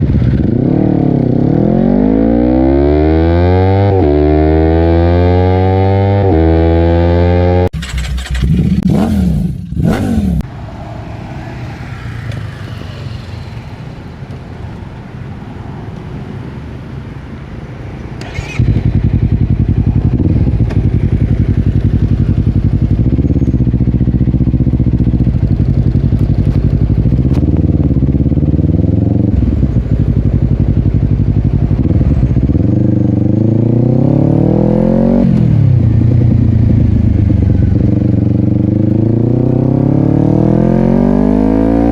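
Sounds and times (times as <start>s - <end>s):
motorcycle engine revving: 0.0s - 14.2s, 18.2s - 41.9s.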